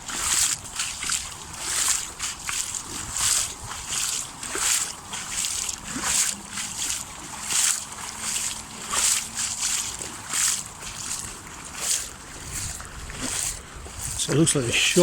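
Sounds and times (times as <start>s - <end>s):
wading through water: 0.0s - 15.0s.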